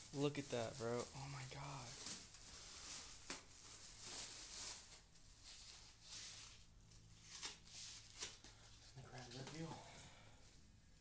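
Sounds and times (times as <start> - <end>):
cardboard packaging rustling: 0.0 - 9.9.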